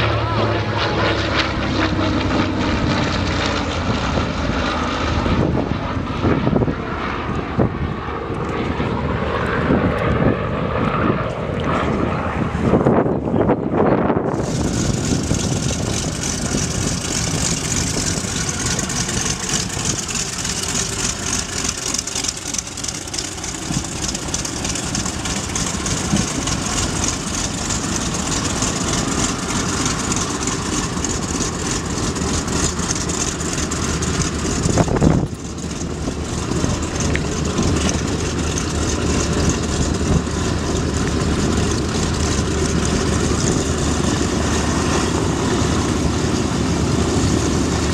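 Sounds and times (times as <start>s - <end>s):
propeller plane engine running: 0.0s - 47.9s.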